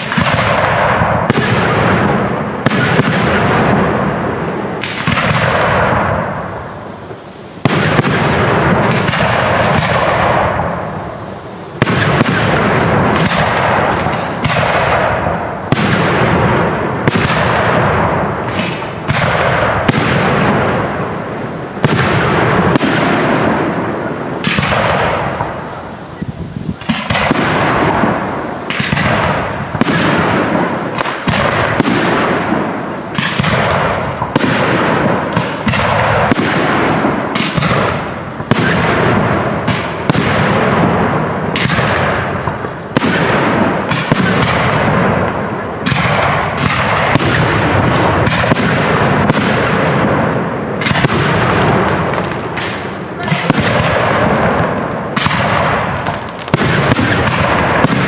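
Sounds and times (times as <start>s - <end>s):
firework shells bursting: 0.0s - 4.1s, 4.7s - 6.7s, 7.6s - 58.0s
echoing rumble: 7.7s - 58.0s.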